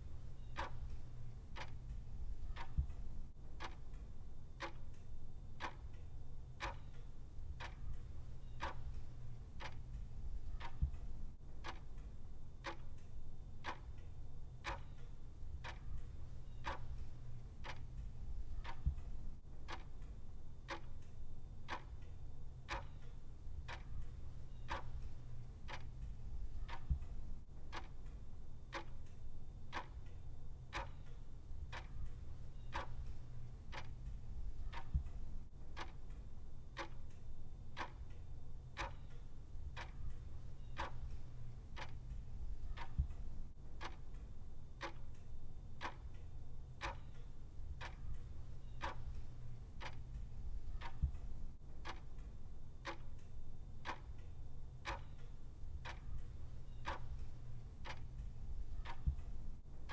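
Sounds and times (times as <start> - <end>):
clock ticking: 0.0 - 59.9
low steady hum: 0.0 - 59.9.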